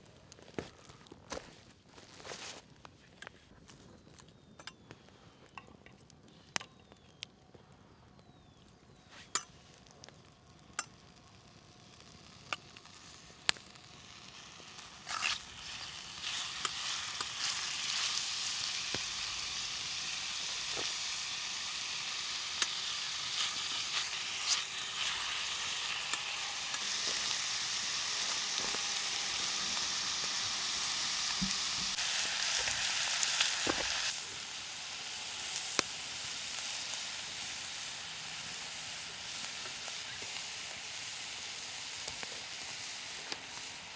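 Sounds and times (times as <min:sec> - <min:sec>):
food sizzling over a fire: 0:08.4 - 0:43.9.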